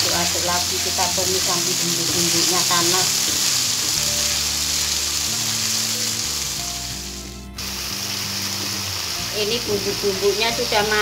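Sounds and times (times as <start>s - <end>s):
background music low notes: 0.0s - 11.0s
spices sizzling in hot oil: 0.0s - 11.0s.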